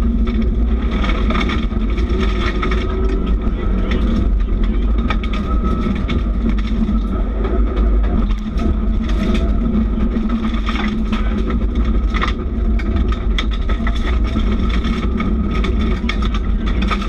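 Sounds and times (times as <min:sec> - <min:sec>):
rally car engine running hard: 0:00.0 - 0:17.0
stones rattling against underside: 0:00.0 - 0:17.0.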